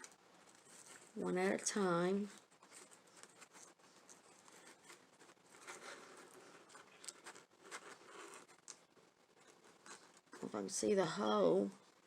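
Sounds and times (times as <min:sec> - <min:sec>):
soft rustling: 0:00.0 - 0:12.0.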